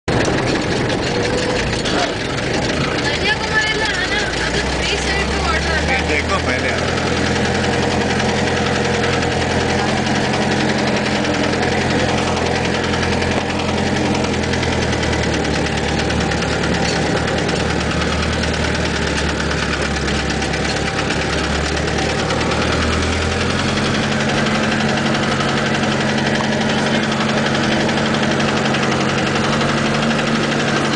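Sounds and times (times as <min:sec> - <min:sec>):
off-road vehicle engine running: 0:00.0 - 0:30.9.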